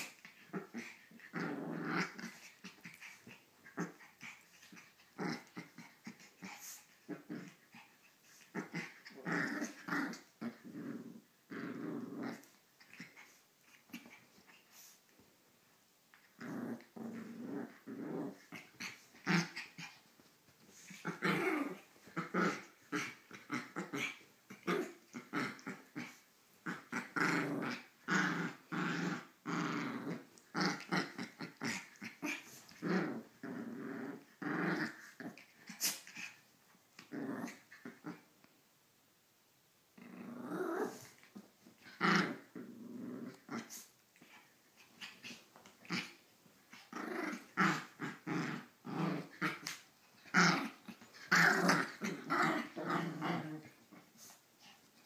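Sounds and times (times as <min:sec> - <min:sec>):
dogs growling: 0:00.0 - 0:14.9, 0:16.1 - 0:36.4, 0:37.0 - 0:38.3, 0:40.0 - 0:55.0.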